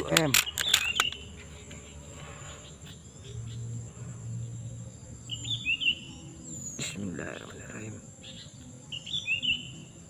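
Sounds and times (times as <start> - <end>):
insects droning: 0.0 - 10.0
small bird chirping: 0.0 - 10.0.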